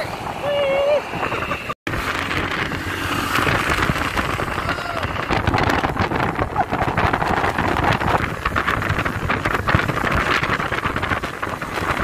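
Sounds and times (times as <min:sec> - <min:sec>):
vehicle road and engine noise: 0:00.0 - 0:12.0
wind buffeting microphone: 0:00.0 - 0:12.0.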